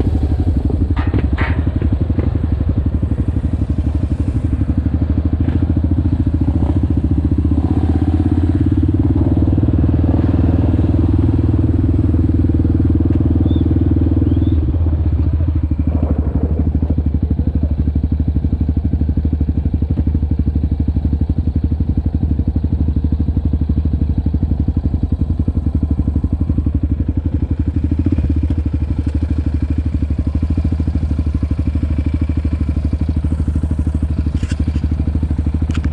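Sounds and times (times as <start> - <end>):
quad engine running: 0.0 - 35.9.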